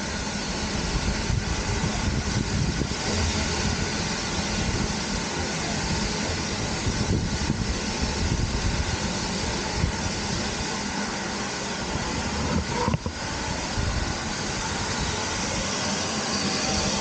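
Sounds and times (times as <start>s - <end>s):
train rumble and hiss: 0.0s - 17.0s.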